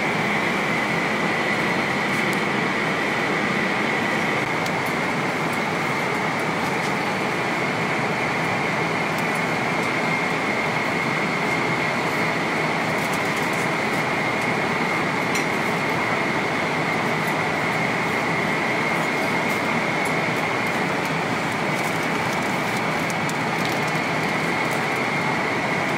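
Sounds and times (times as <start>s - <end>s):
airplane cabin rush of air: 0.0s - 25.9s.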